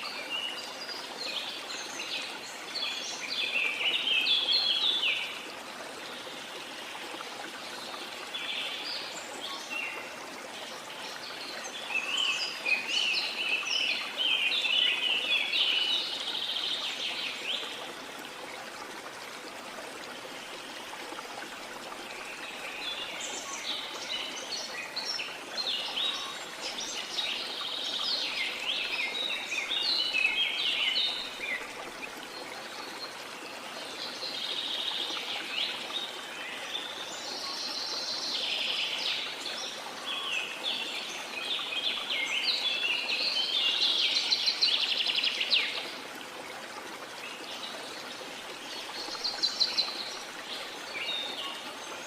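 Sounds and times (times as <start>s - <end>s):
songbirds chirping and twittering: 0.0s - 52.0s.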